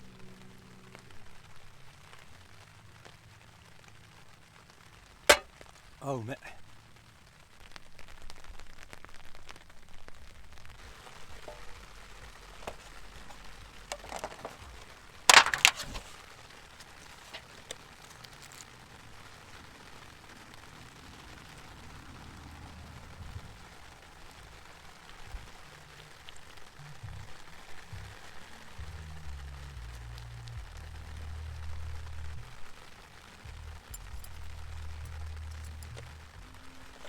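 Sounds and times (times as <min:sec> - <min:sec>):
light rain hiss: 0:00.0 - 0:37.0.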